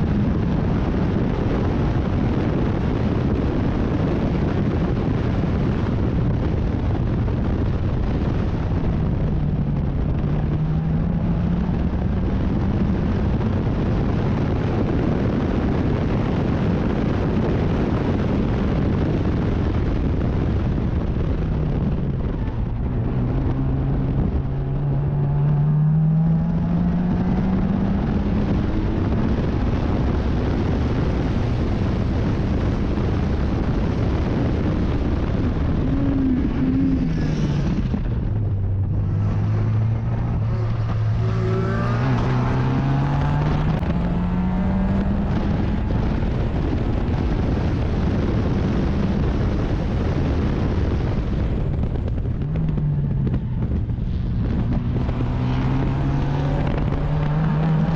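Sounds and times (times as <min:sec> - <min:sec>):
race car engine at speed: 0:00.0 - 0:57.9
wind rushing over microphone: 0:00.0 - 0:57.9.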